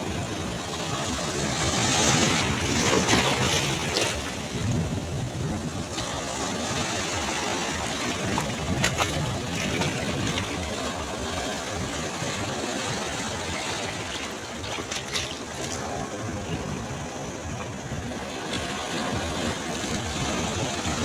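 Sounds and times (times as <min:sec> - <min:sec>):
waves breaking on beach: 0:00.0 - 0:21.0.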